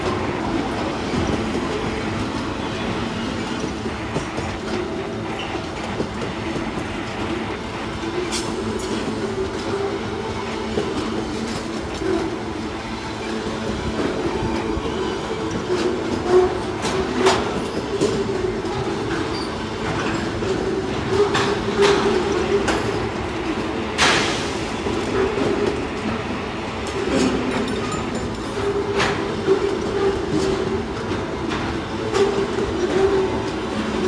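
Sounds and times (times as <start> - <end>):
train wheels clattering over rails: 0.0 - 34.0.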